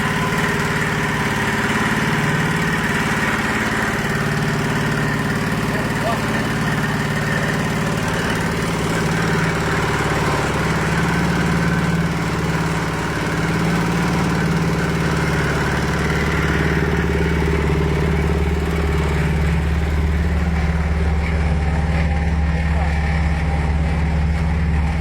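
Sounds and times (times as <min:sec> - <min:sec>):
feed mixer engine running: 0:00.0 - 0:25.0.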